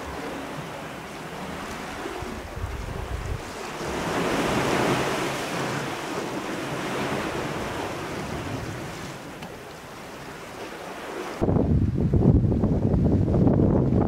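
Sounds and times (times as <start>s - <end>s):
surf washing against rocks: 0.0s - 12.0s
wind: 0.0s - 14.0s.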